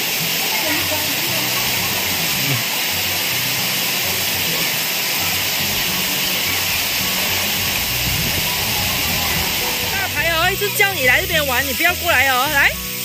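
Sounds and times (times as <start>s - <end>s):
soft background music: 0.0s - 13.0s
water flowing and splashing: 0.0s - 13.0s.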